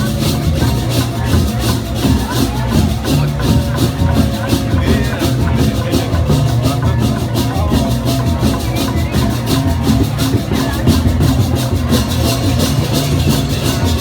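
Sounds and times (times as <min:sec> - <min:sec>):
percussion ensemble playing: 0:00.0 - 0:14.0.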